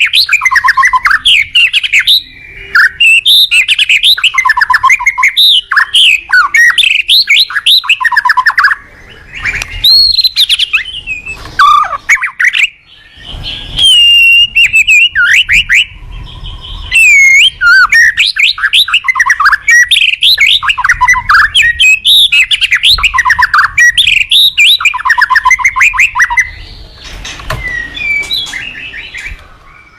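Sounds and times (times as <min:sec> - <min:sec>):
songbird whistles and trills: 0:00.0 - 0:29.9.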